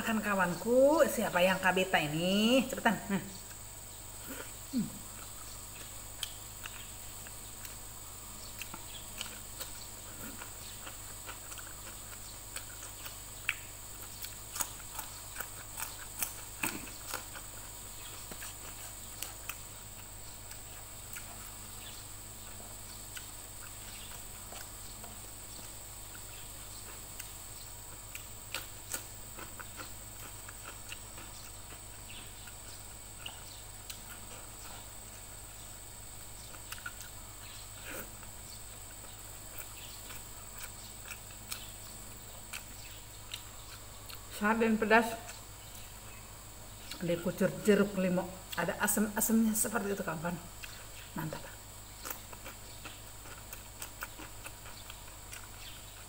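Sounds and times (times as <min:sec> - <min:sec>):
steady low hum: 0:00.0 - 0:56.0
person chewing food: 0:03.4 - 0:44.4, 0:46.8 - 0:47.0, 0:50.5 - 0:56.0.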